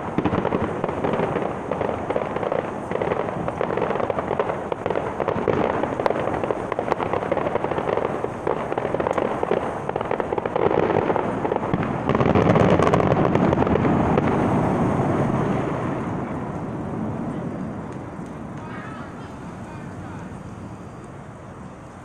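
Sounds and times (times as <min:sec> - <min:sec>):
distant fireworks crackling and banging: 0:00.0 - 0:22.0.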